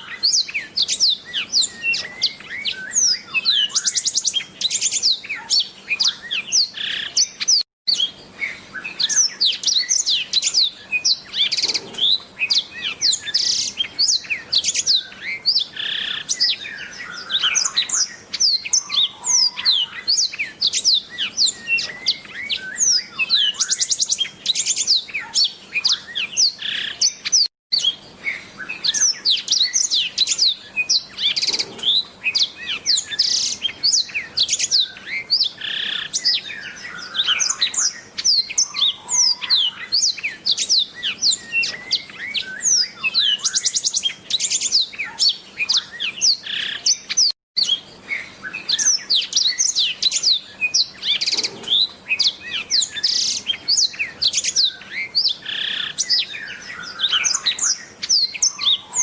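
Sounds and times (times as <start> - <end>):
canary singing rapid chirps: 0.0 - 59.0.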